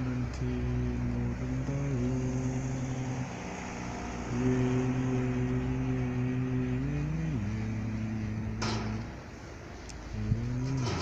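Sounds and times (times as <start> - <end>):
low voice holding long notes: 0.0 - 9.0.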